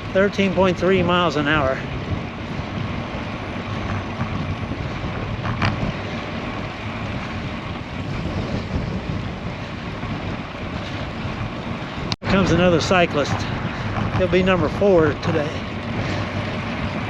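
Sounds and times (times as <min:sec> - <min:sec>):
bicycle rolling on road: 0:00.0 - 0:17.0
wind buffeting microphone: 0:00.0 - 0:17.0.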